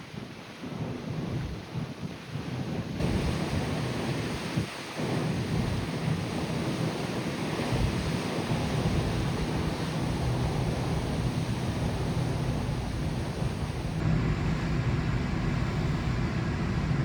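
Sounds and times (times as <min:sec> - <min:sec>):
sea: 0:00.0 - 0:17.0
wind: 0:00.0 - 0:17.0.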